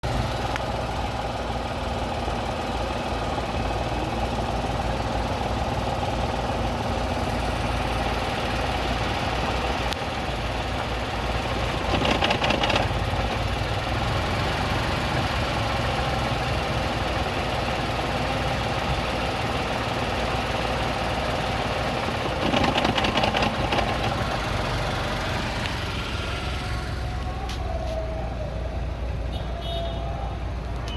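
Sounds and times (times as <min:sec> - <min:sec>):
engine knocking: 0:00.0 - 0:26.8
car engine idling roughly: 0:00.0 - 0:26.9.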